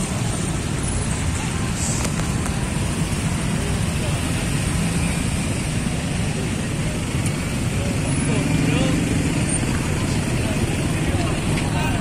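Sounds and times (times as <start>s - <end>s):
road traffic noise: 0.0s - 12.0s
faint voices: 1.1s - 12.0s.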